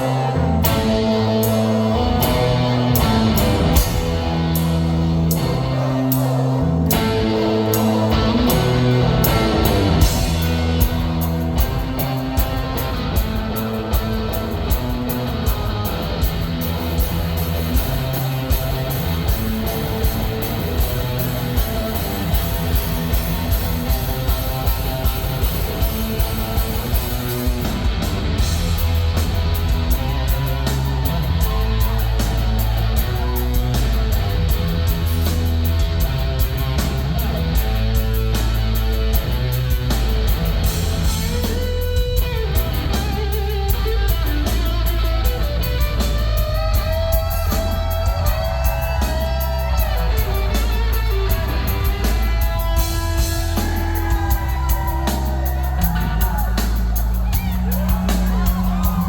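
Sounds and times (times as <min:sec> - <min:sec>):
drum kit steady beat: 0:00.0 - 0:59.0
electric guitar: 0:00.0 - 0:59.0.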